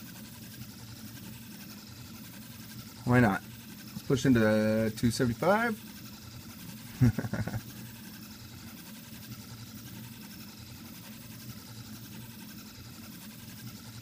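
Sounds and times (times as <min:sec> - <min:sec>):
three d printer motors whirring: 0:00.0 - 0:14.0.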